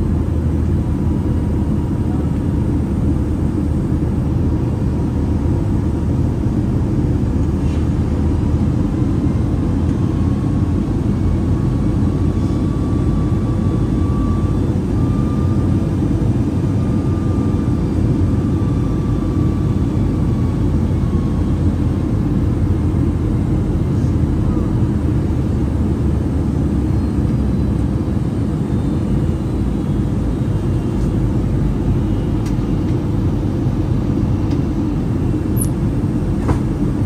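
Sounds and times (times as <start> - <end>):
airplane cabin engine noise: 0.0 - 37.0.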